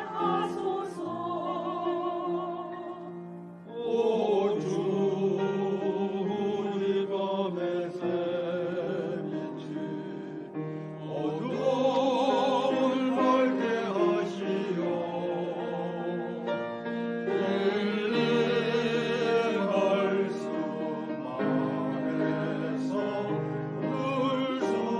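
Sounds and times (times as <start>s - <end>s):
church choir singing a hymn: 0.0s - 24.9s.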